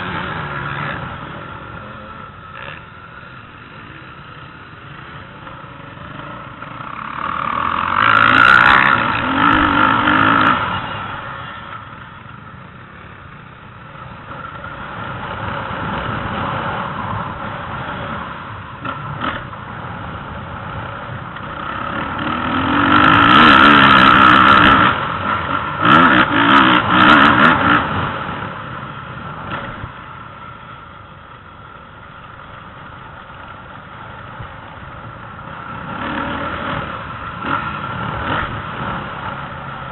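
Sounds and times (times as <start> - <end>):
dirt bikes revving: 0.0 - 39.9.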